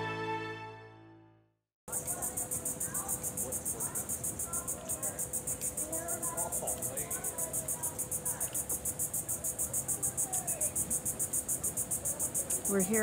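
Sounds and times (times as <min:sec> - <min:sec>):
faint steady hum: 0:01.9 - 0:13.0
insects pulsing calls: 0:01.9 - 0:13.0.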